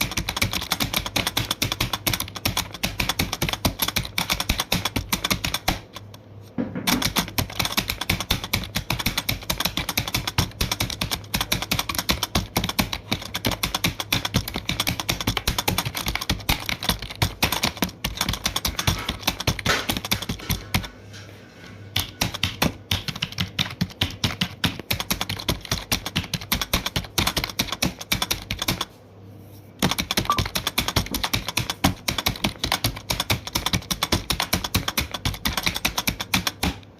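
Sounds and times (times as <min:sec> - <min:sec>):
rapid keyboard typing: 0:00.0 - 0:06.2, 0:06.8 - 0:20.9, 0:22.0 - 0:28.9, 0:29.8 - 0:36.9.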